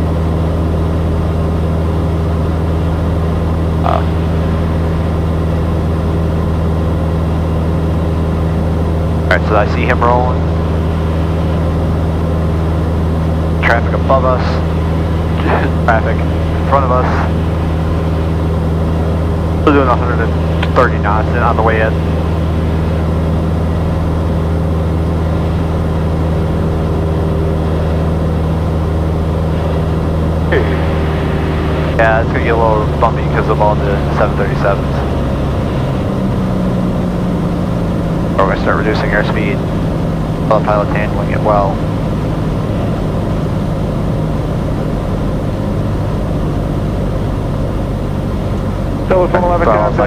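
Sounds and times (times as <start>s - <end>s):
small plane engine and propeller: 0.0s - 50.0s.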